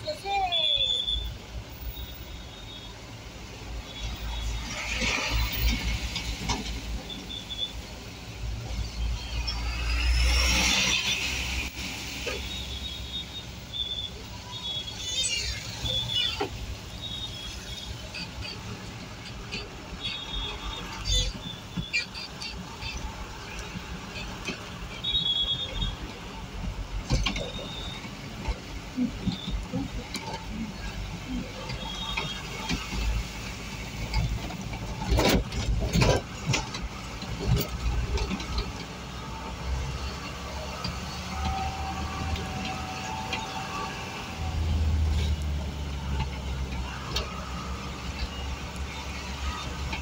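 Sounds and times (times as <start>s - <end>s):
engine and road rumble: 0.0s - 50.0s.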